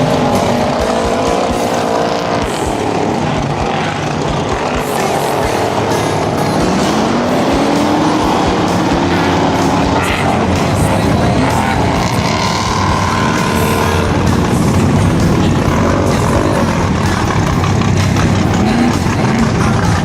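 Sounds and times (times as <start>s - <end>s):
truck engine running hard: 0.0s - 20.0s.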